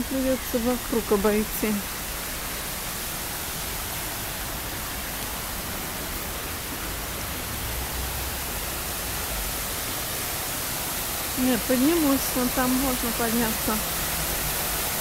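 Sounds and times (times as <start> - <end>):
water falling over rocks: 0.0 - 15.0.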